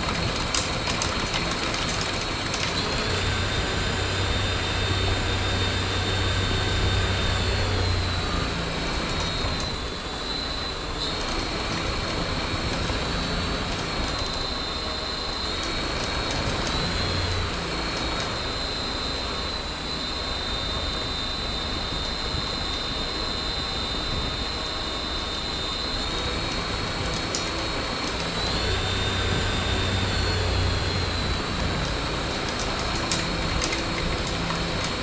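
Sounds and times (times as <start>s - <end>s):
electric motor high whine: 0.0s - 35.0s
low vibration hum: 0.0s - 35.0s.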